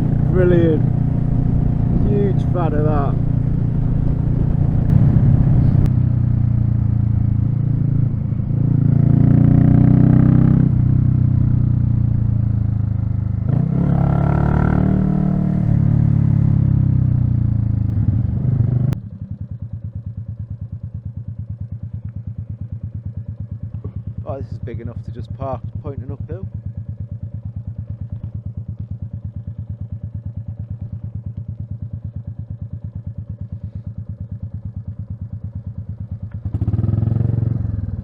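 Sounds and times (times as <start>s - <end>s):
motorcycle engine idling: 0.0s - 13.8s, 15.1s - 38.0s
motorcycle engine accelerating: 0.0s - 38.0s.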